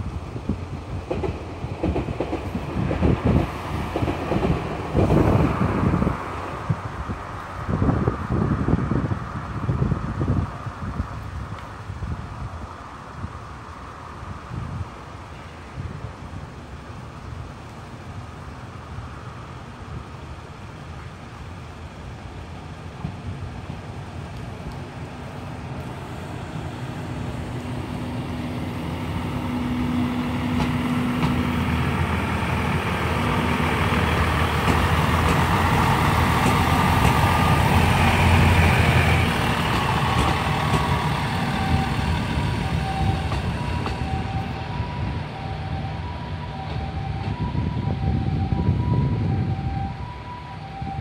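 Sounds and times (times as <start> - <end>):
railcar engine passing: 0.0 - 51.0
train wheels on rails: 0.0 - 51.0.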